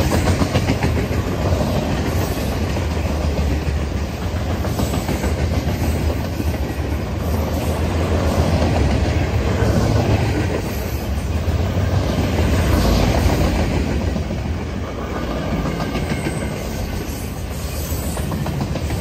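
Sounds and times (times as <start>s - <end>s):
freight train wheels clattering: 0.0s - 19.0s.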